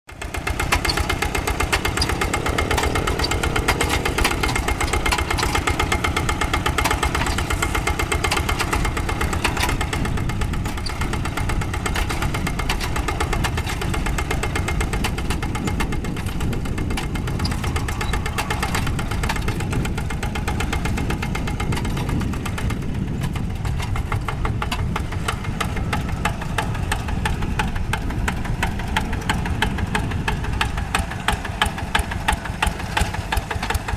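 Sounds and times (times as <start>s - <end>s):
diesel tractor engine knocking: 0.1s - 33.9s.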